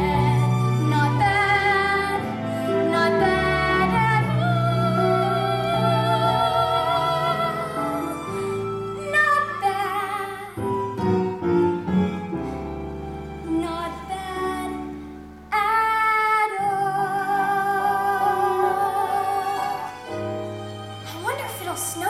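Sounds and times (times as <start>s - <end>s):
woman singing with vibrato: 0.0s - 11.0s, 13.4s - 20.2s
instrumental accompaniment: 0.0s - 15.5s, 17.2s - 22.0s.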